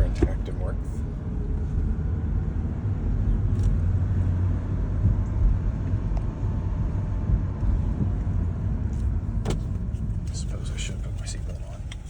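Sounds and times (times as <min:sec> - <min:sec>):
car engine rumbling: 0:00.0 - 0:12.0
road noise: 0:00.0 - 0:12.0.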